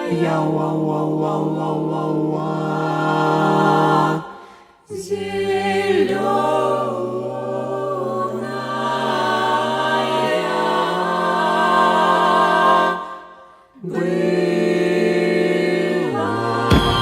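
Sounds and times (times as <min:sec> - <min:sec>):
a cappella choir singing chords: 0:00.0 - 0:17.0.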